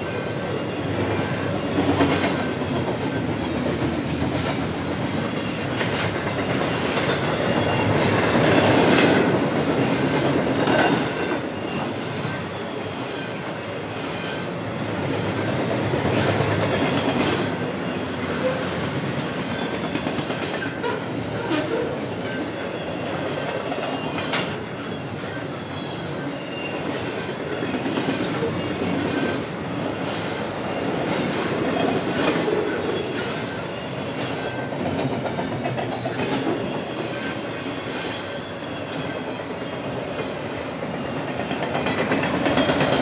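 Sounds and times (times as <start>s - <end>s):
train wheels rumbling and clacking: 0.0s - 43.0s.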